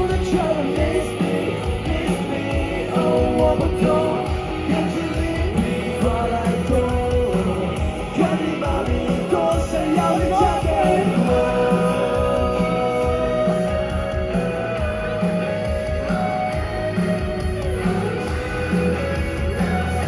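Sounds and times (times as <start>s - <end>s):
person singing: 0.0s - 16.4s
live rock band playing: 0.0s - 20.0s.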